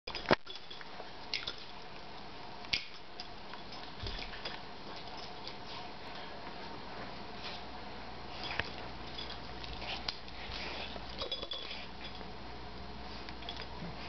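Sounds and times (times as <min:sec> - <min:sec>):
steady low hiss: 0:00.1 - 0:14.0.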